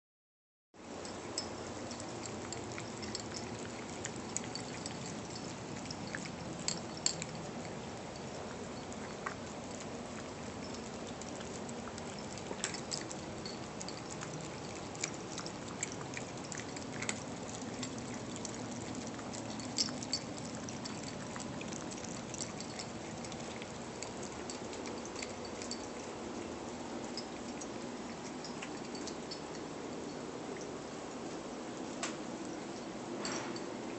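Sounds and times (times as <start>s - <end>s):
cats chewing wet food: 0.9s - 33.2s.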